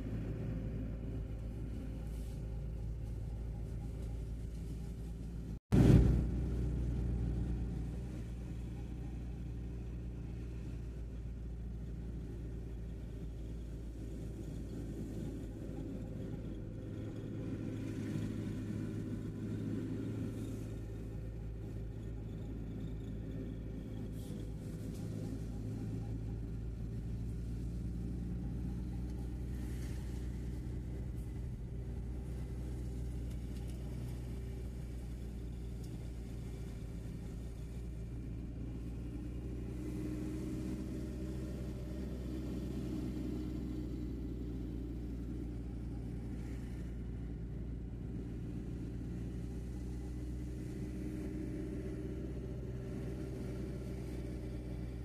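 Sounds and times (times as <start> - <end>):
tyres on road: 0.0 - 55.0
vehicle engine rumble: 0.0 - 55.0.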